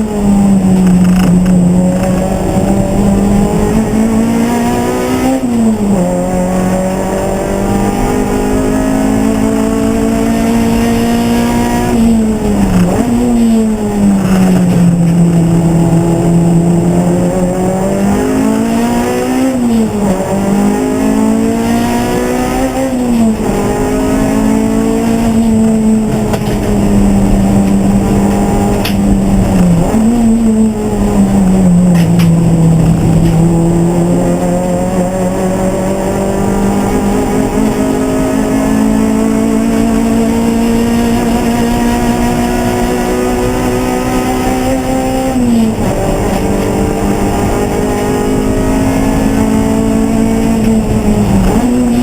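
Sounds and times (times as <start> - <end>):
race car engine running: 0.0 - 52.0.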